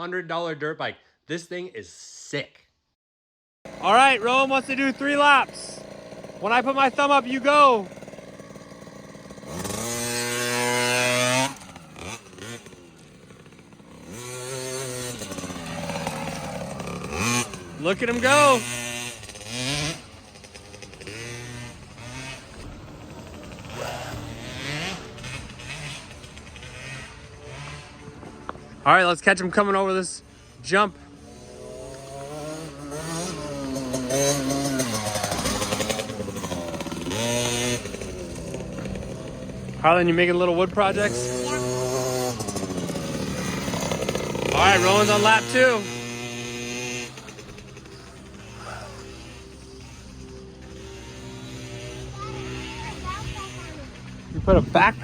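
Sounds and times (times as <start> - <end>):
dirt bike engine revving: 3.7 - 55.0.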